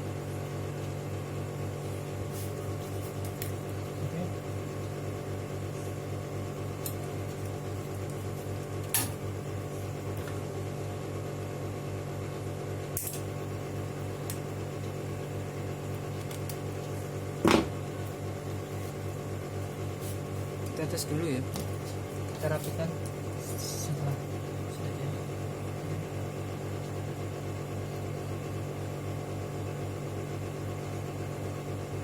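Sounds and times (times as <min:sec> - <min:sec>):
pulsing electrical hum: 0:00.0 - 0:32.0.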